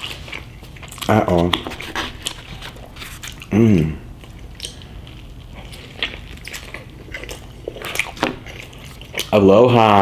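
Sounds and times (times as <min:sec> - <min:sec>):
mouth chewing wetly: 0:00.0 - 0:09.5.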